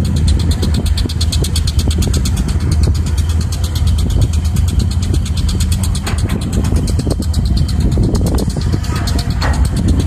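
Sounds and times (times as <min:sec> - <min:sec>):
diesel engines rumbling: 0:00.0 - 0:10.0
fast even ticking: 0:00.0 - 0:10.0.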